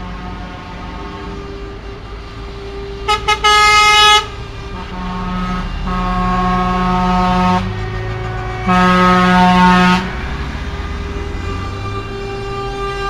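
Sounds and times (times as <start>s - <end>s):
lower-pitched horn tone: 0.0s - 13.0s
truck air horn blasts: 0.0s - 13.0s
trucks driving past: 0.0s - 13.0s.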